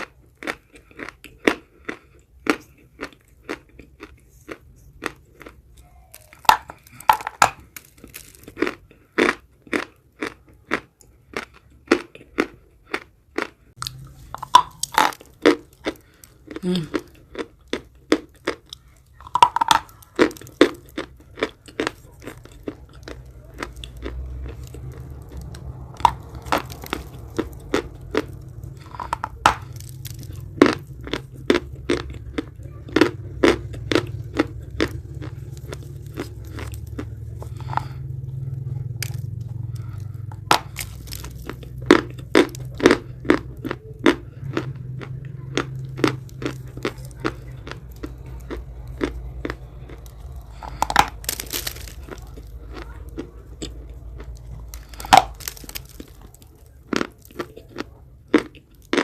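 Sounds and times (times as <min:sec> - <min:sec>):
chalk crunching while chewing: 0:00.0 - 0:59.0
low steady hum: 0:00.0 - 0:59.0.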